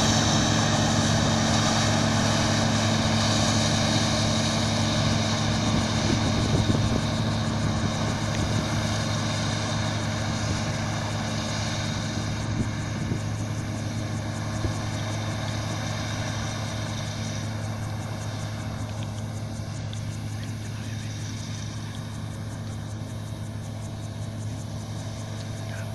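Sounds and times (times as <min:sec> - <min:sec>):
combine harvester droning: 0:00.0 - 0:25.9.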